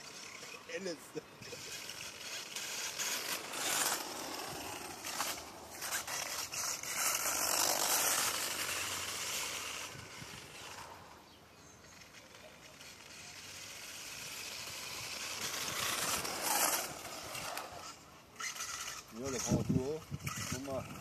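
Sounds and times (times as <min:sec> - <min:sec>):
rc car motor and tyres hissing: 0:00.0 - 0:21.0.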